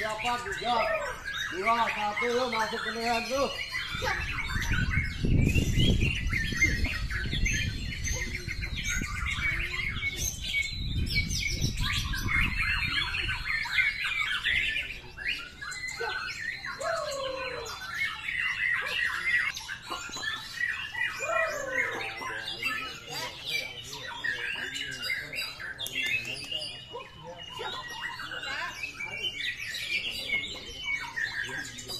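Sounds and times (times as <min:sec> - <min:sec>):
birds singing in chorus: 0:00.0 - 0:31.9.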